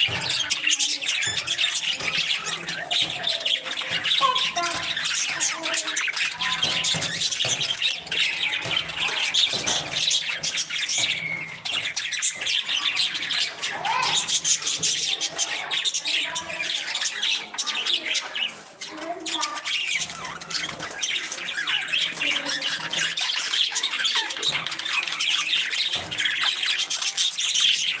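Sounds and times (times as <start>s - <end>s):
flock of parrots squawking: 0.0s - 28.0s.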